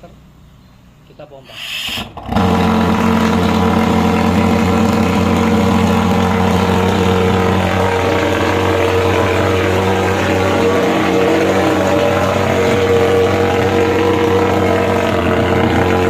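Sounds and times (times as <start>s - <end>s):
pulse-jet engine droning: 1.5s - 16.0s.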